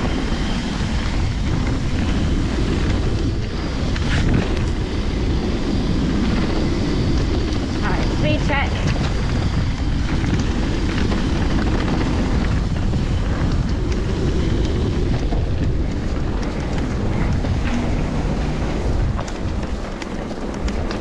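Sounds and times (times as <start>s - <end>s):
bike clicks and rattles: 0.0s - 21.0s
bike tyres rumbling on dirt: 0.0s - 21.0s
wind buffeting microphone: 0.0s - 21.0s.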